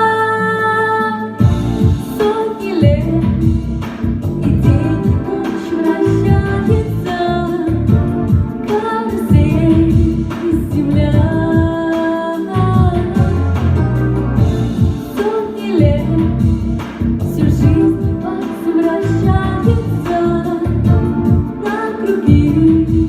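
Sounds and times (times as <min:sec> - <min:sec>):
woman singing: 0:00.0 - 0:14.0, 0:14.7 - 0:23.0
pop backing track: 0:00.0 - 0:23.0.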